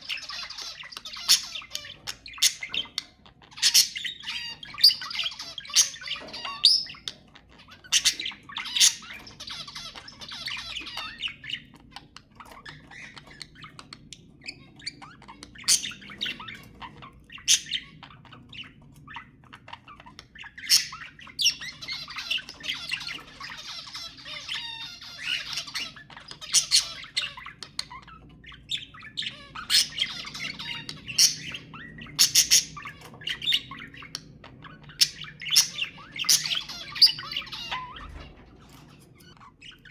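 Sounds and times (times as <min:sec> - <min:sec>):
budgerigars chattering and warbling: 0:00.0 - 0:39.9
budgerigars squawking: 0:00.0 - 0:39.9.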